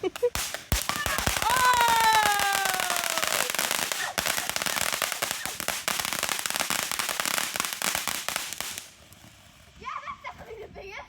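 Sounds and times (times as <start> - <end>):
dense rapid firework crackling: 0.0 - 10.6.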